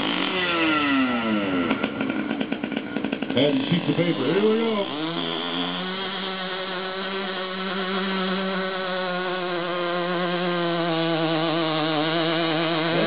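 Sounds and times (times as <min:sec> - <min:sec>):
small two-stroke engine buzzing: 0:00.0 - 0:13.0.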